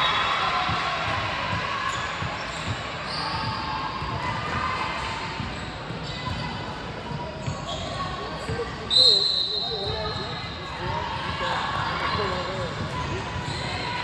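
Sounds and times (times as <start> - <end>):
gym background noise: 0.0 - 14.0.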